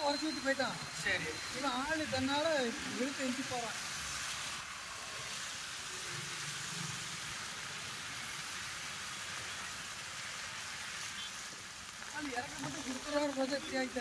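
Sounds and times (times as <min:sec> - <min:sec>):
heavy rain: 0:00.0 - 0:14.0
tyres on a flooded road: 0:00.0 - 0:14.0.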